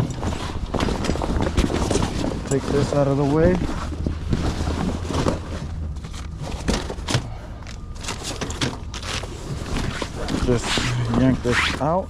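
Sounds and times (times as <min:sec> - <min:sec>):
knocks and thumps of gear: 0:00.0 - 0:11.4
steady low hum: 0:00.0 - 0:12.0.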